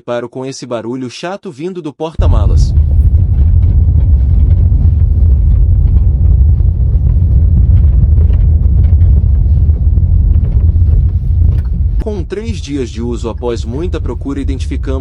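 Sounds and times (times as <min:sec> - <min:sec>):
car road and cabin rumble: 0:02.2 - 0:15.0.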